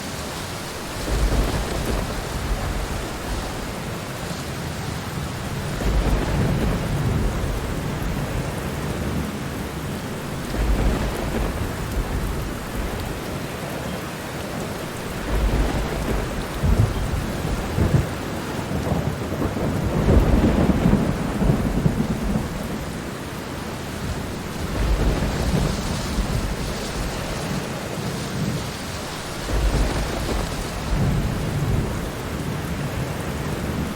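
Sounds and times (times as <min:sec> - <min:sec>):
steady rainfall: 0:00.0 - 0:33.9
distant thunder rumbles: 0:00.6 - 0:33.9.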